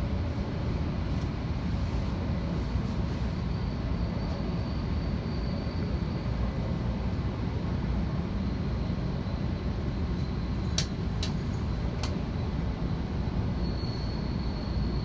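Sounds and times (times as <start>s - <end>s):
train running on track: 0.0s - 15.0s.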